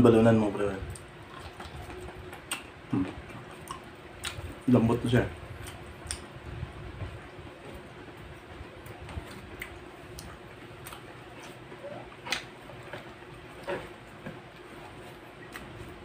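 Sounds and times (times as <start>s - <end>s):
faint steady hum: 0.0s - 16.0s
people chewing with lip smacks: 0.8s - 4.7s, 5.4s - 16.0s.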